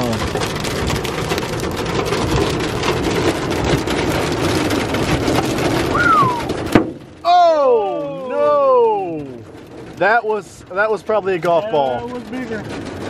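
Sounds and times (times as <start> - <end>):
hail and rain on a truck roof: 0.0 - 13.0.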